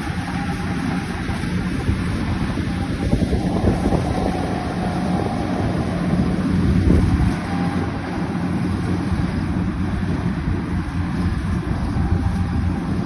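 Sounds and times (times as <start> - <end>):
engine running with low hum: 0.0 - 13.0
wind noise on microphone: 0.0 - 13.0.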